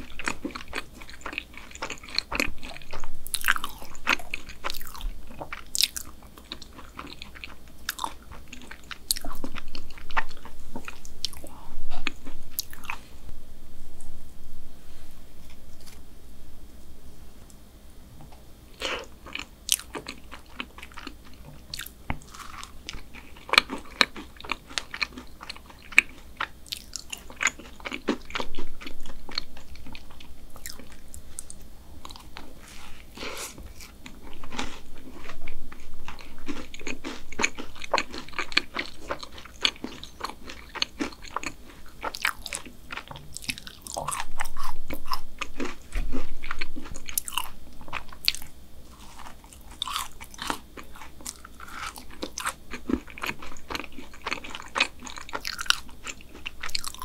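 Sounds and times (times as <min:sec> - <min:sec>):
close chewing and mouth clicks: 0:00.0 - 0:13.1, 0:18.8 - 0:57.0.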